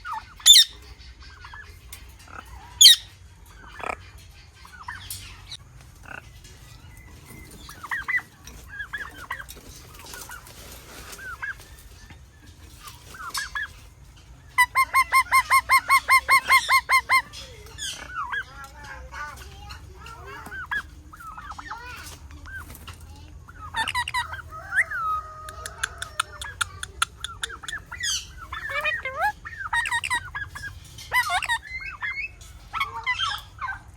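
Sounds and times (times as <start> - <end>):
parrot chirps and squawks: 0.0 - 33.9.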